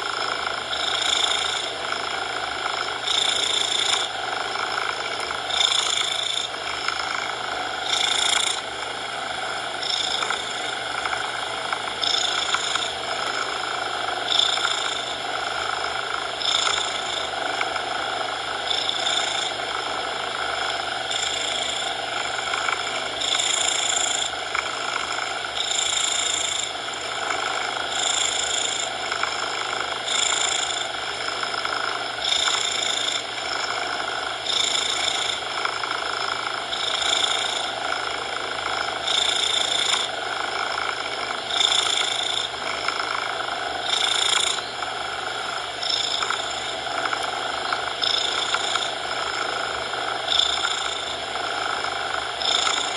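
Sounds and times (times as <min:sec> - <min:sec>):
cat purring: 0:00.0 - 0:52.9
steady coloured noise: 0:00.0 - 0:52.9.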